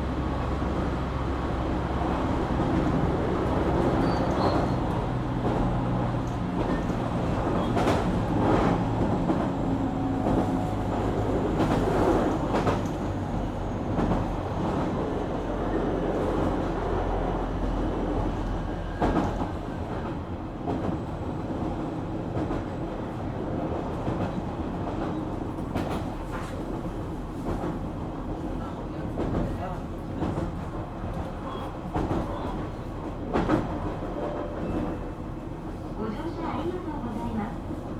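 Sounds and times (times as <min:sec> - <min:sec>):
train running rumble: 0:00.0 - 0:37.9.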